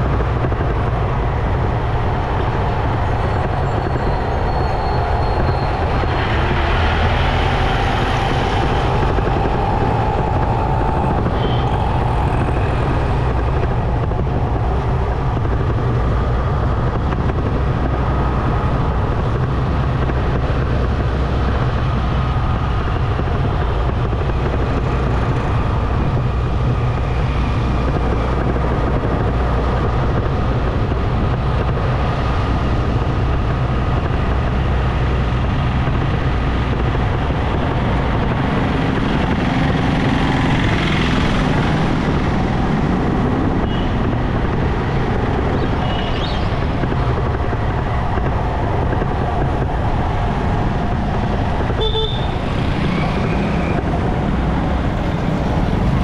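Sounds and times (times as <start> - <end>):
motorcycle engine rumble: 0.0 - 56.0
road noise: 0.0 - 56.0.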